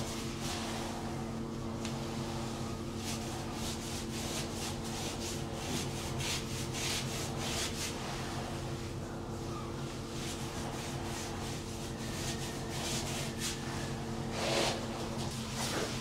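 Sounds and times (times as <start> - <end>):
paint brush scrubbing: 0.0 - 1.3, 2.1 - 9.0, 9.8 - 16.0.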